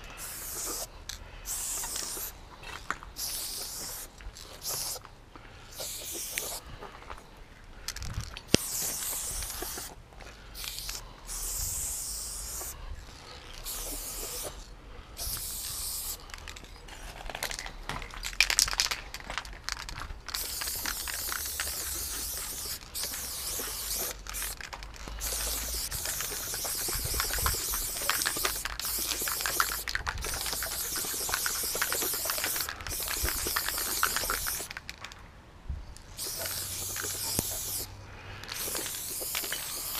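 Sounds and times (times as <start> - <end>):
spray paint can hissing: 0.0 - 2.4, 3.2 - 5.0, 5.7 - 6.6, 7.9 - 10.0, 10.6 - 12.8, 13.4 - 17.7, 18.3 - 34.9, 36.1 - 37.9, 38.5 - 39.9.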